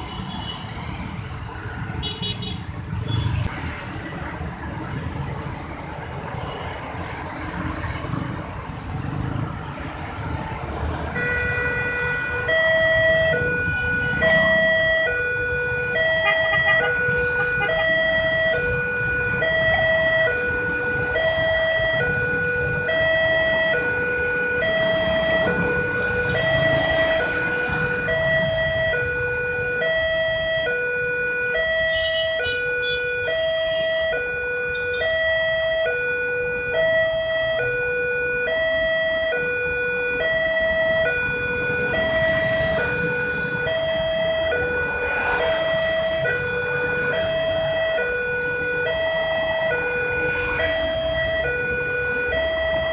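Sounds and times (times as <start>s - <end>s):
road traffic rumbling: 0.0s - 52.9s
two-tone warning siren: 5.4s - 52.9s.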